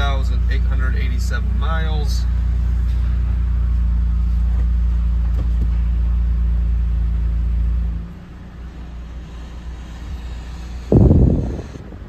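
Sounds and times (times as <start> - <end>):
car engine hum from inside cabin: 0.0 - 12.0.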